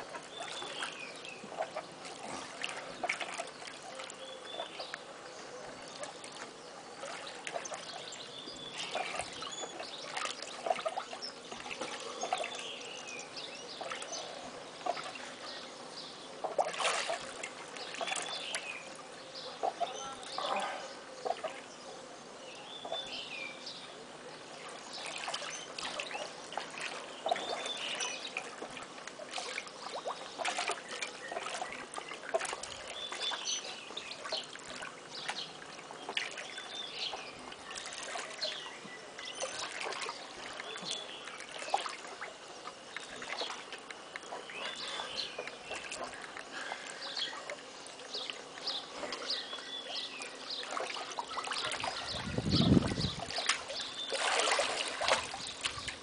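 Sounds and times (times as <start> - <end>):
pool water splashing: 0.0 - 56.0.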